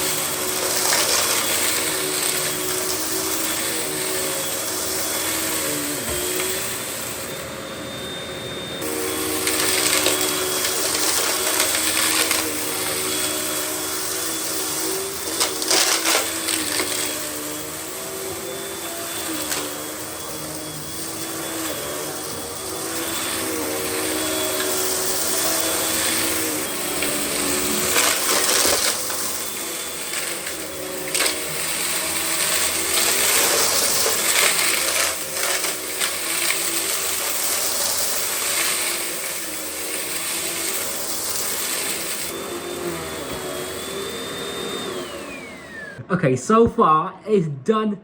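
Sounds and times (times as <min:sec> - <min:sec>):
vacuum cleaner on carpet: 0:00.0 - 0:46.7.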